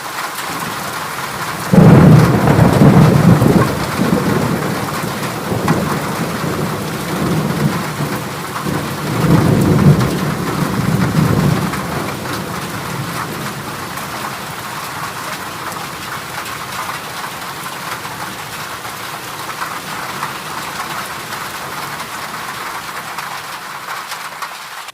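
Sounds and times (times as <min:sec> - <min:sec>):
heavy rain on a metal roof: 0:00.0 - 0:24.9
thunder rumbling: 0:00.5 - 0:23.4.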